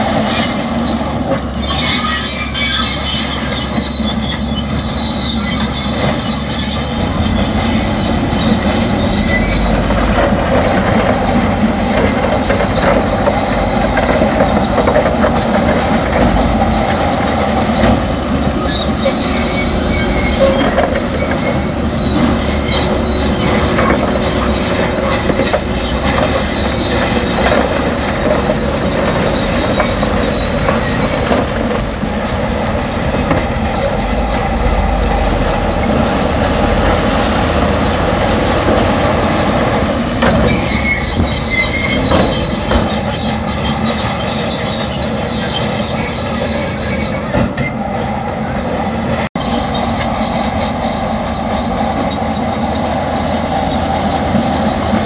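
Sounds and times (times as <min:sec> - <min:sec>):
crawler tracks squealing and clanking: 0:00.0 - 0:55.0
diesel engines running: 0:00.0 - 0:55.0.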